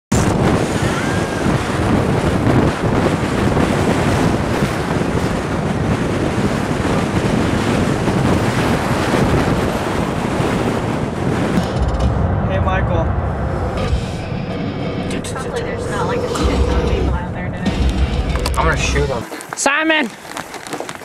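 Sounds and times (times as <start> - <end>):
wind buffeting microphone: 0.1 - 21.0.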